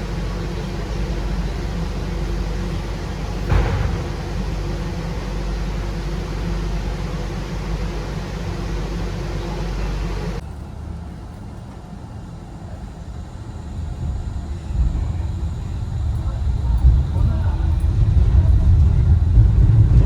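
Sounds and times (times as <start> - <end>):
faint steady hum: 0.0 - 20.0
suspension railway rumble and hiss: 0.0 - 20.0.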